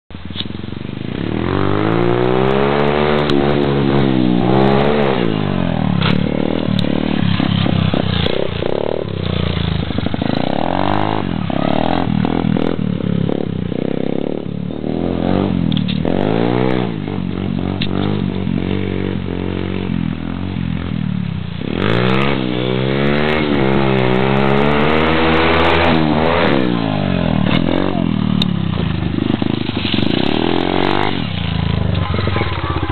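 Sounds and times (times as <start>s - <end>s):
small motorbike engine revving: 1.0s - 32.9s.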